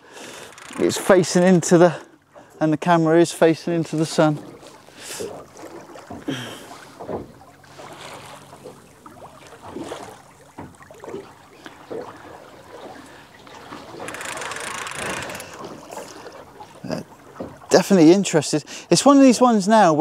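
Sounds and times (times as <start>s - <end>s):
rush of water: 0.0s - 19.8s
waves lapping against boat hull: 0.0s - 20.0s.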